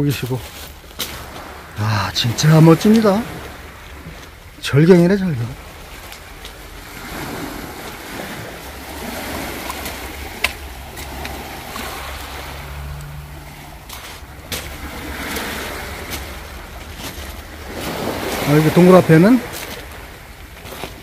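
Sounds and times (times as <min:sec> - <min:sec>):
waves on pebble beach: 0:00.0 - 0:21.0.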